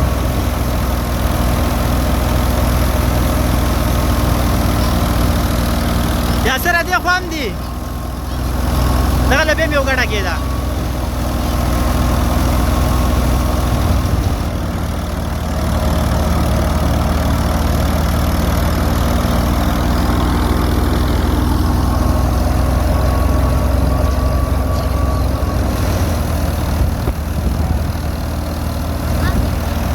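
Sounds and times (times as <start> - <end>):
threshing machine engine drone: 0.0 - 29.9.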